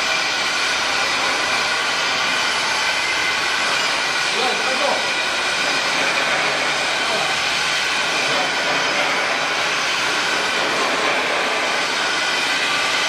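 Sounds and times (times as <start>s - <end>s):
loud machine running: 0.0s - 13.0s.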